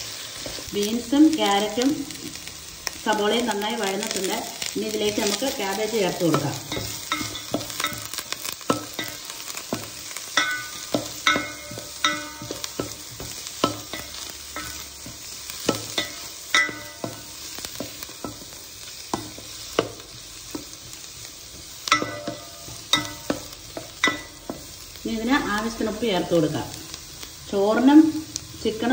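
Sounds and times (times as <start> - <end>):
vegetables sizzling in pan: 0.0 - 28.9.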